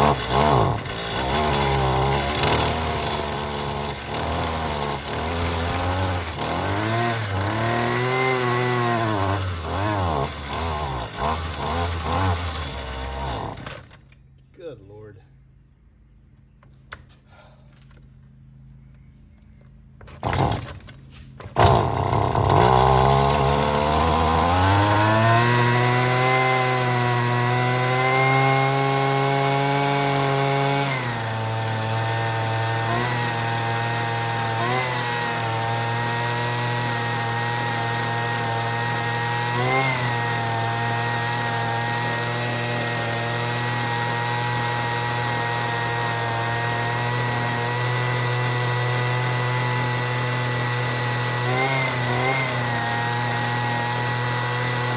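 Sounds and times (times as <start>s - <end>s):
string trimmer engine running: 0.0s - 14.3s, 20.0s - 54.9s.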